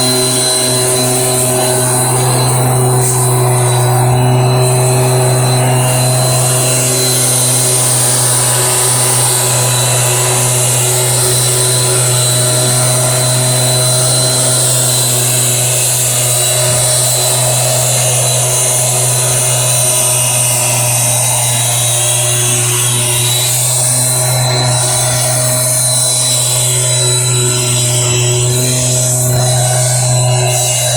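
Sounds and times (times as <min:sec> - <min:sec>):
small engine of garden sprayer: 0:00.0 - 0:30.9.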